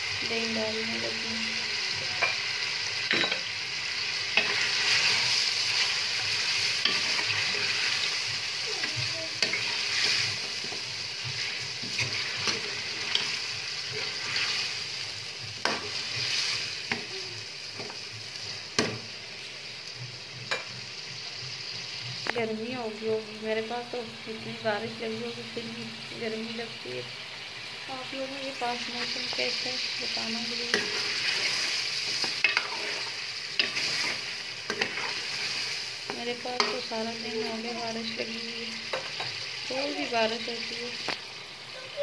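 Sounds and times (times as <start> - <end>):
food sizzling in a metal pot: 0.0 - 42.0.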